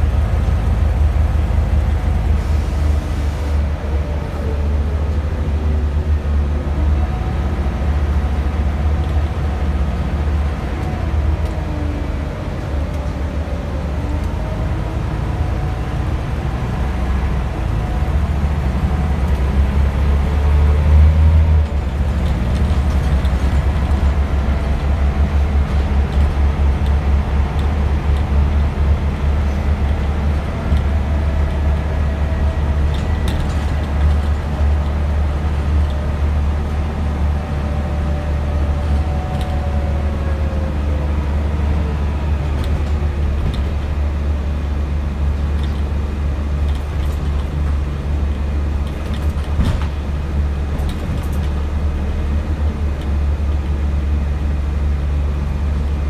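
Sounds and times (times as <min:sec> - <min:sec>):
bus engine rumble and whine: 0:00.0 - 0:56.0.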